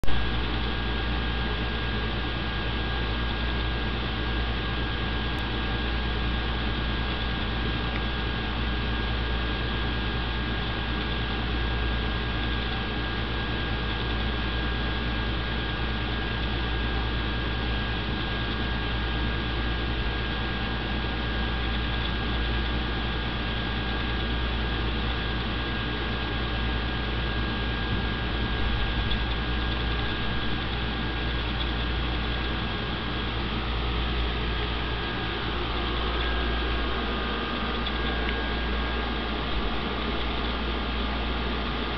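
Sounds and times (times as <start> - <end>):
faint high whine: 0.0 - 41.9
steady low hum: 0.0 - 41.9.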